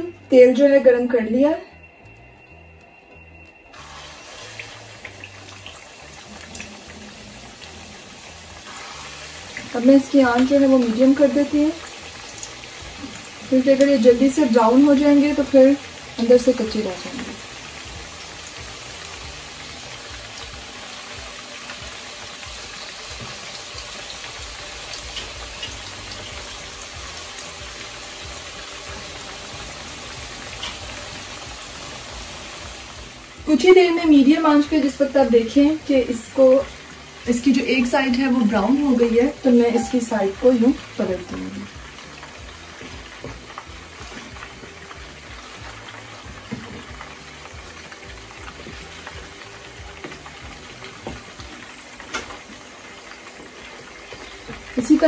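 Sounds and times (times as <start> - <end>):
patties sizzling in oil: 0.0 - 55.0
oil popping and crackling: 2.1 - 55.0.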